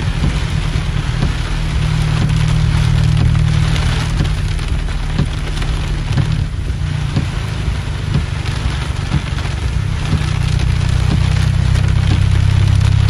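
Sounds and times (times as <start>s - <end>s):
soft regular thump: 0.0s - 12.4s
heavy rain on car: 0.0s - 13.0s
steady low rumble: 0.0s - 13.0s.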